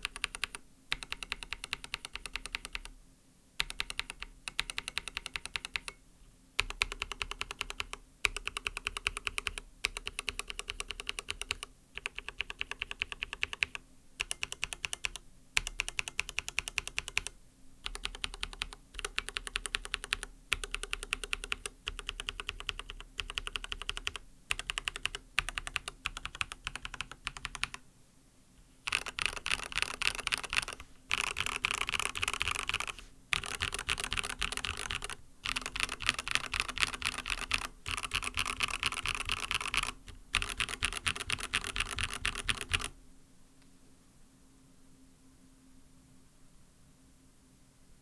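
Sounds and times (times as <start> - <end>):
mechanical keyboard typing: 0.0 - 3.0, 3.6 - 6.0, 6.6 - 27.8, 28.9 - 43.0.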